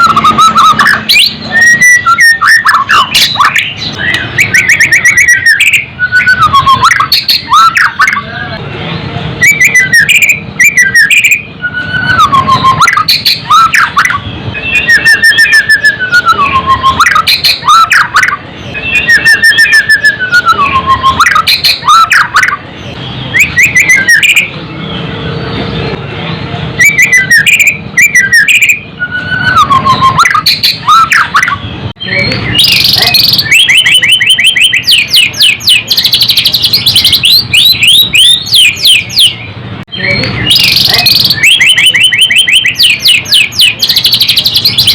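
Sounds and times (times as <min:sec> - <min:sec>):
songbird whistling song: 0:00.0 - 0:08.6, 0:09.4 - 0:44.9.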